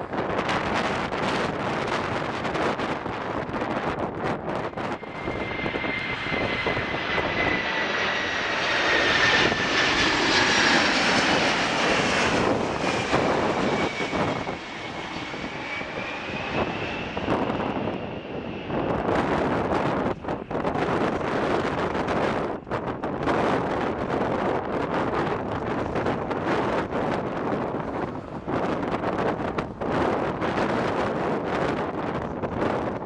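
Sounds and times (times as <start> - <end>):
jet airliner rumbling overhead: 0.0 - 33.0
wind buffeting microphone: 0.0 - 33.0.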